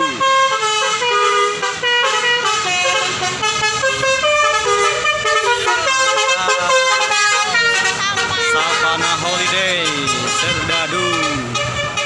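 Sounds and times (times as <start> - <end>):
bus horn playing a melody: 0.0 - 12.0.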